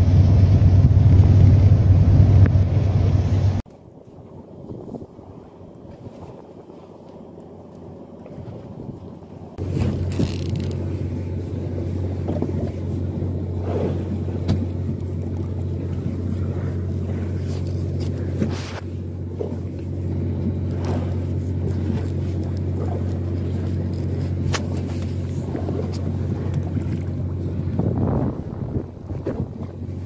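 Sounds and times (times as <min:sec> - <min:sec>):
boat engine humming: 0:00.0 - 0:30.0.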